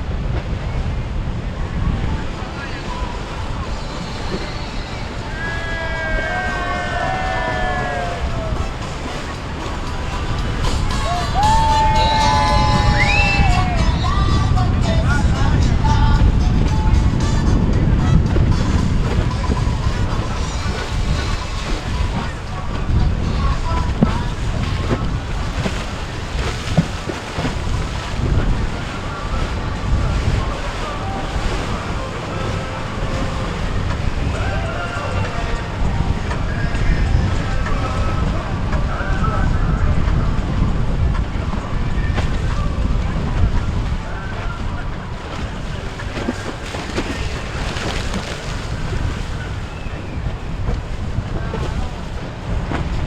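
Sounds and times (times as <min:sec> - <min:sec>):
faint boat engines: 0:00.0 - 0:53.0
waves washing: 0:00.0 - 0:53.0
wind buffeting microphone: 0:00.0 - 0:53.0.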